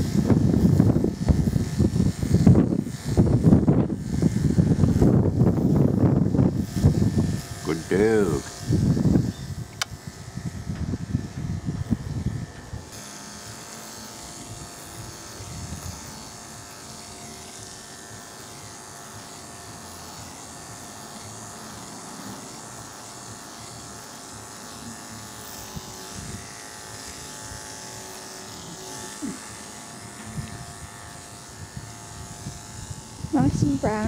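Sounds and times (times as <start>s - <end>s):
electric dog clipper buzzing: 0.0s - 34.0s.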